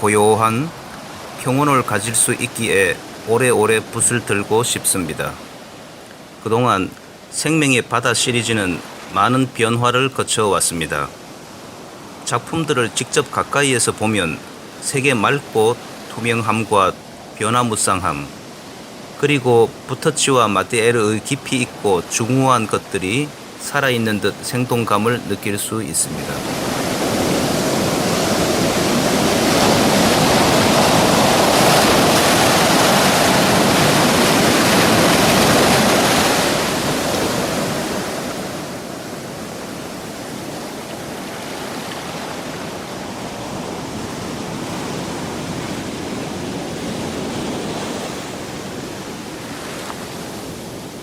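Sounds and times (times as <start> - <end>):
waves breaking: 0.0 - 51.0.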